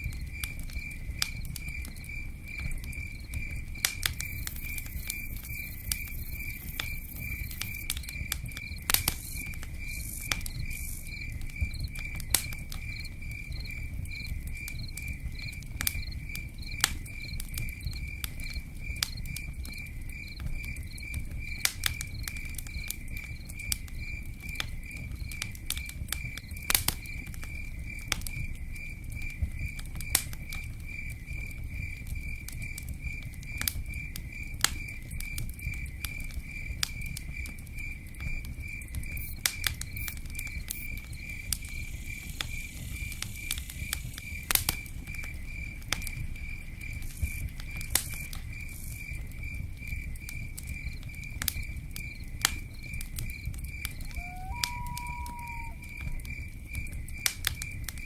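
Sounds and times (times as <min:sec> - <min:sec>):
insect chirping: 0:00.0 - 0:25.5, 0:30.9 - 0:57.8
campfire crackling and popping: 0:00.0 - 0:58.0.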